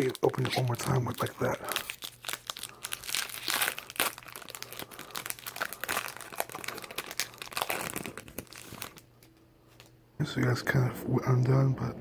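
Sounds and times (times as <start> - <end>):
plastic wrapper crinkling and tearing: 0.0 - 9.9.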